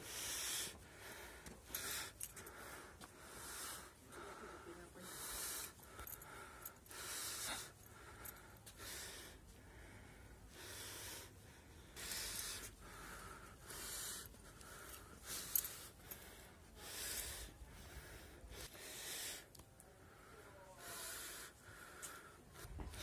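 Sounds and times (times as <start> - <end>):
person breathing hard: 0.0 - 23.0.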